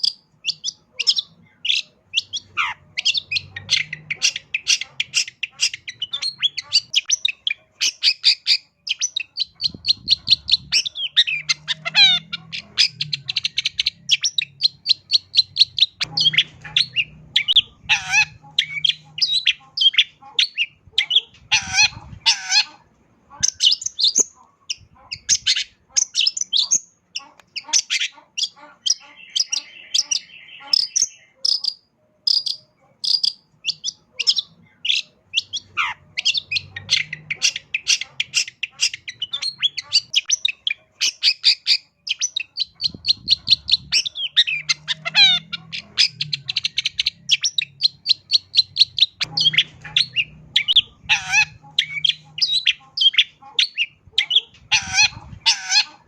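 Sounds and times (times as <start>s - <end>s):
bird singing chirps and trills: 0.0s - 22.7s, 23.4s - 56.0s.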